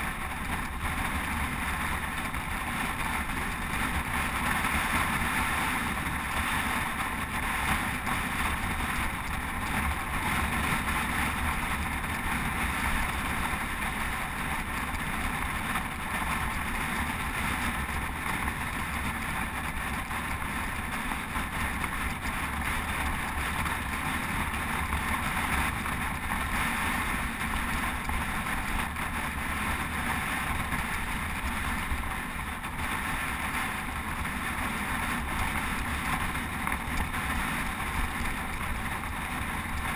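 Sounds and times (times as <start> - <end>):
bicycle tyres humming on asphalt: 0.0 - 39.9.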